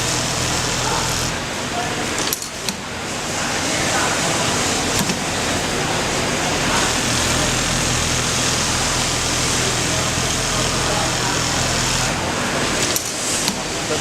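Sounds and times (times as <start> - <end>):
sewing machine running: 0.0 - 3.4, 4.1 - 14.0.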